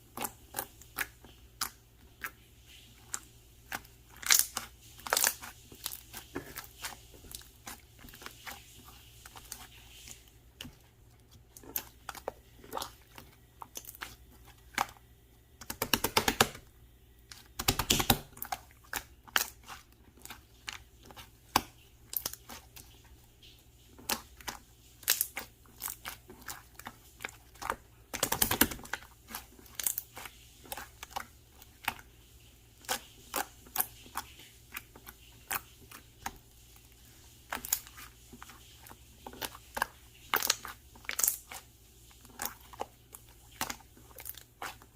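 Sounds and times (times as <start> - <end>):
slime squished by hand: 0.1 - 32.1, 32.8 - 44.9.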